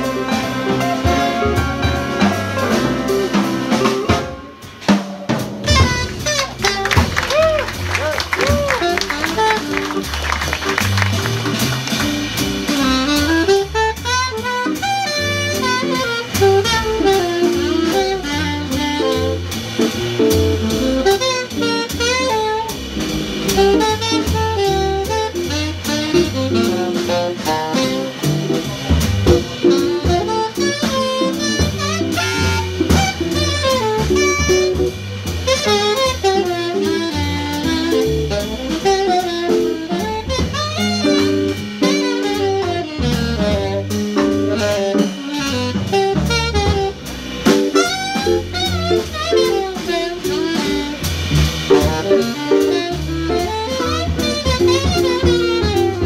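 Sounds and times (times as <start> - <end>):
saxophone melody: 0.0 - 4.7, 5.6 - 28.7, 29.3 - 56.0
bass: 0.0 - 56.0
drum kit: 0.0 - 56.0.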